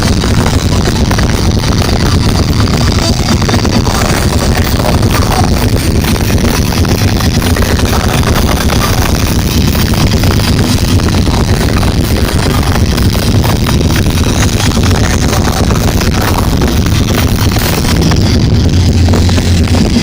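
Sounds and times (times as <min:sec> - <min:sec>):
distorted punk band playing: 0:00.0 - 0:20.0.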